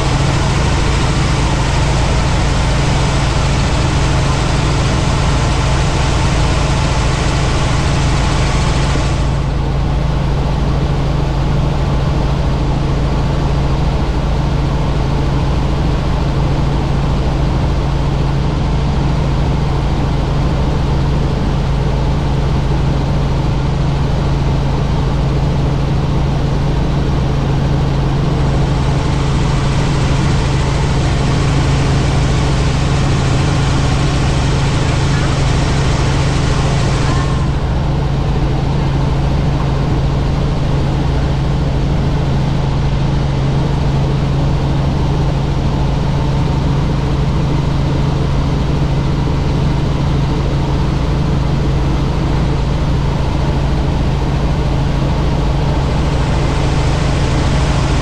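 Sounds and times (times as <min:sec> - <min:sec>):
helicopter cabin engine drone: 0:00.0 - 0:58.0.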